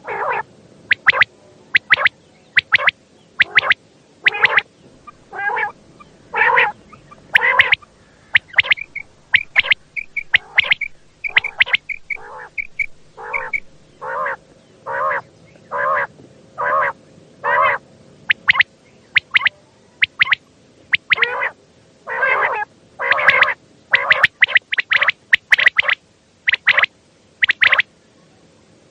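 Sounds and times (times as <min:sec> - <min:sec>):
quail calling: 0:00.0 - 0:27.9.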